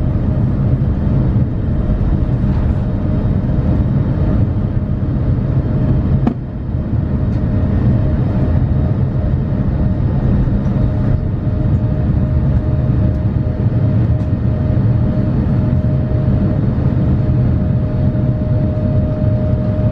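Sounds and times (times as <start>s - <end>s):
jet engine and airflow rumble: 0.0s - 19.9s.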